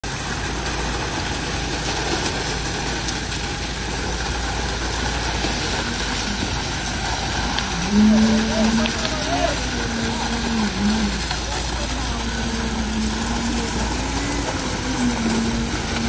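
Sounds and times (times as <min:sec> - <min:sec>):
concrete pump droning: 0:00.0 - 0:16.0.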